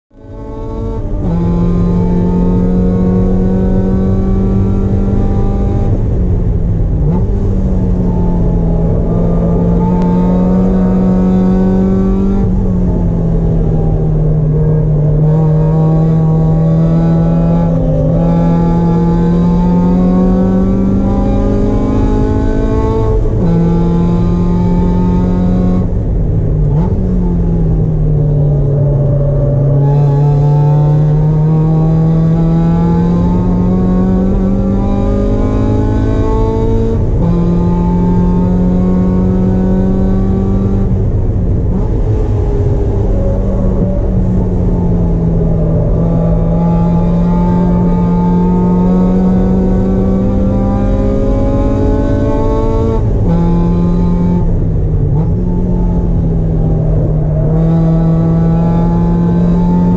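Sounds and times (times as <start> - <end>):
race car engine at high revs: 0.1 - 59.9.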